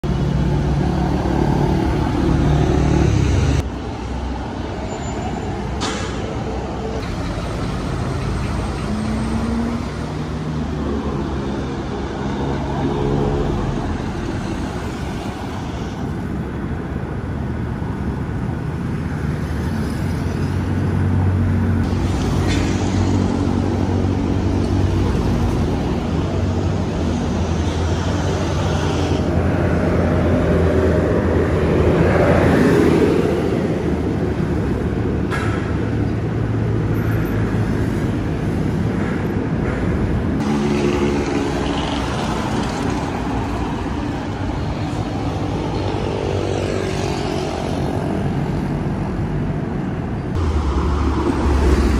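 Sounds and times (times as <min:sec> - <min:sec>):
car engines passing: 0:00.0 - 0:51.9.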